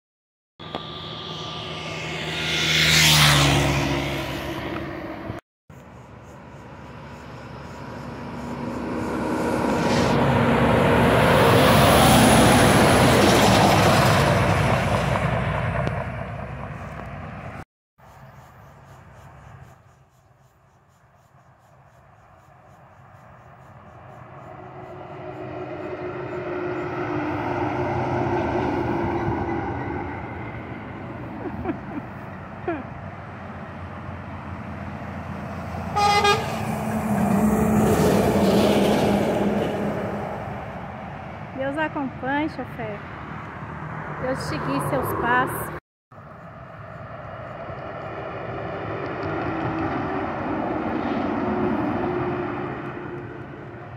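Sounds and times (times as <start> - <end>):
truck approaching: 0.6 - 19.8, 22.0 - 53.9
truck passing: 0.6 - 19.8, 22.0 - 53.9.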